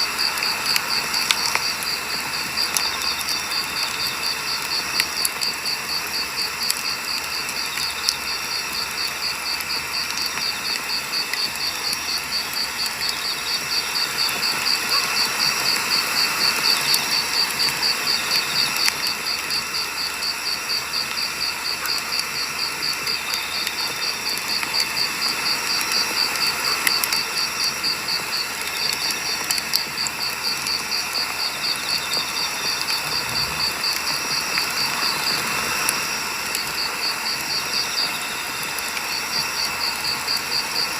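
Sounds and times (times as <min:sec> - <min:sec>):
campfire crackling and popping: 0:00.0 - 0:40.9
insect chirping: 0:00.0 - 0:40.9.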